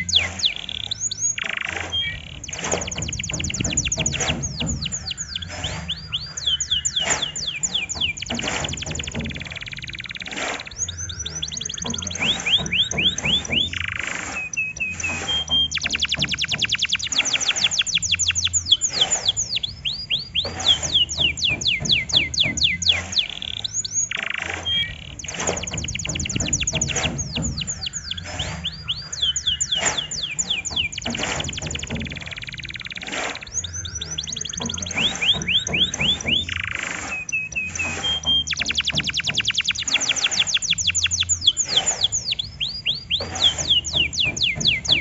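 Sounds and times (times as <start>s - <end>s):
canary singing: 0.0s - 45.0s.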